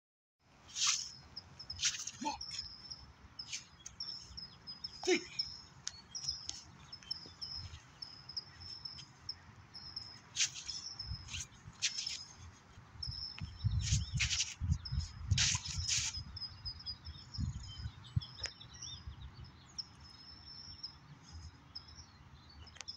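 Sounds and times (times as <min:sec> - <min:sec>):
small birds chirping: 0:00.7 - 0:22.9.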